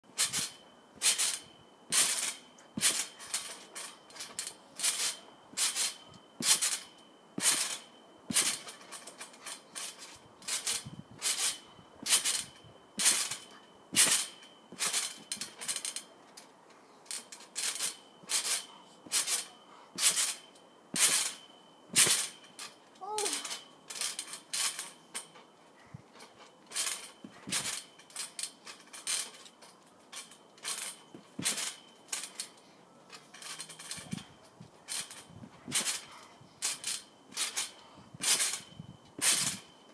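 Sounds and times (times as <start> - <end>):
trampoline springs snapping: 0.1 - 39.9.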